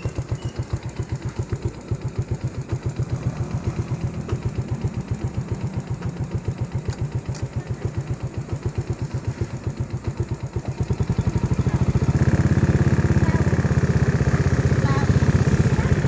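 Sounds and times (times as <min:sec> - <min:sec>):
vehicle engine idling and revving: 0:00.0 - 0:16.0.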